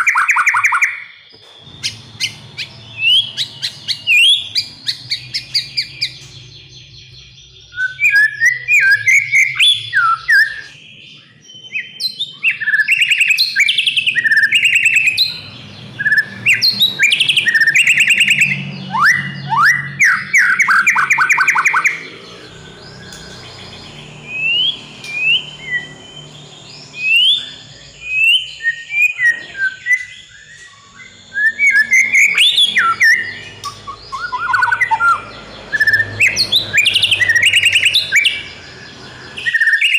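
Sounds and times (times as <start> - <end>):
songbird singing whistles and trills: 0.0 - 39.9.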